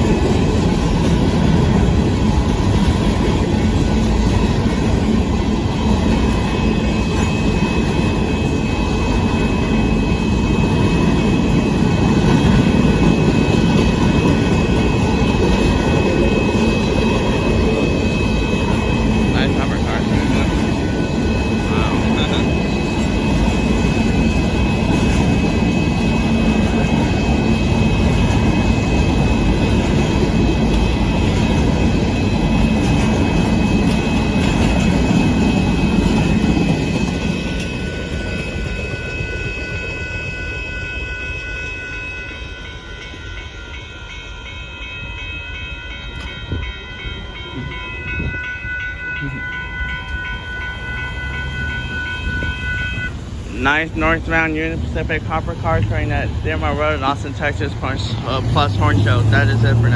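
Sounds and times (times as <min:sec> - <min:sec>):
train rolling on rails: 0:00.0 - 0:59.9.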